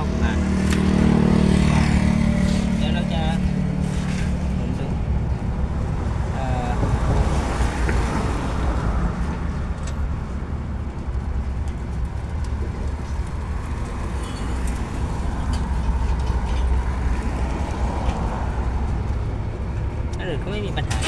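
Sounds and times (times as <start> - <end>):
car engine idling: 0.0 - 8.5, 9.4 - 21.0.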